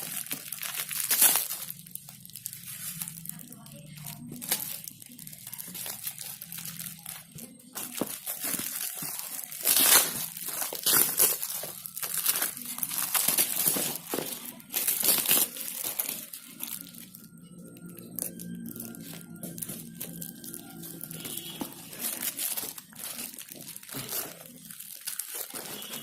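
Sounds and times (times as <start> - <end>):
packaging crumpled and torn: 0.0 - 26.0.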